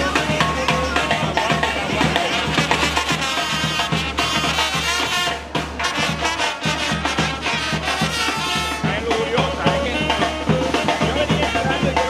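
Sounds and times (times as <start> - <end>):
brass band playing: 0.0 - 12.0
steady drum beat: 0.0 - 12.0.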